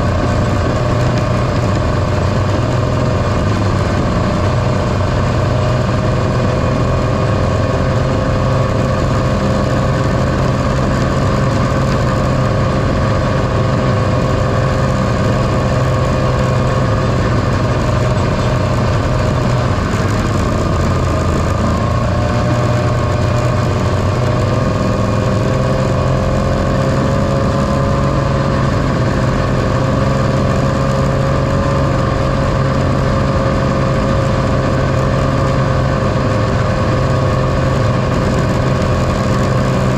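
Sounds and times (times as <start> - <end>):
snowmobile two-stroke engine running: 0.0 - 39.9.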